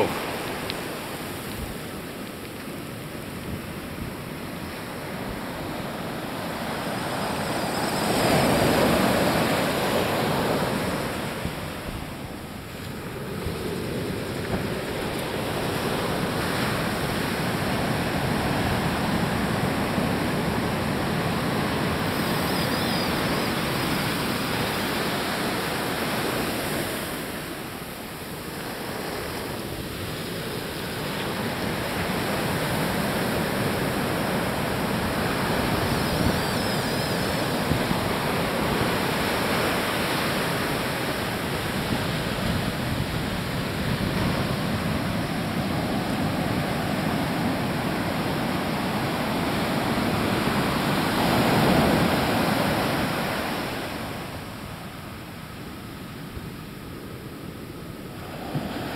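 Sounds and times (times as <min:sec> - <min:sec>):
ocean surf breaking on beach: 0:00.0 - 0:58.9.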